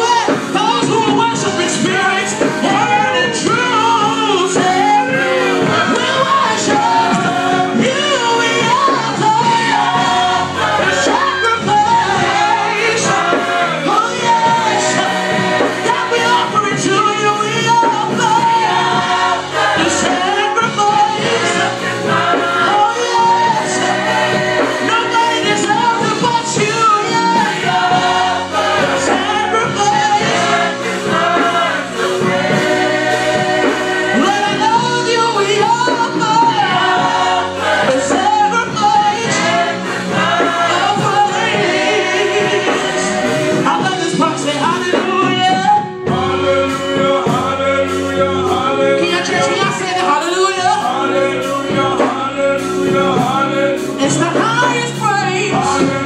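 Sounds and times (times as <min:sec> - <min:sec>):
choir singing gospel: 0:00.0 - 0:56.0
instrumental accompaniment with beat: 0:00.0 - 0:56.0.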